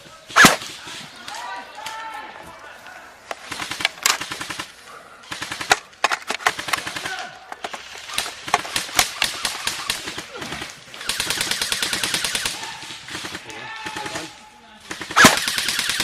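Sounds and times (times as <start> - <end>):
airsoft guns firing bursts: 0.3 - 0.9, 3.2 - 16.0.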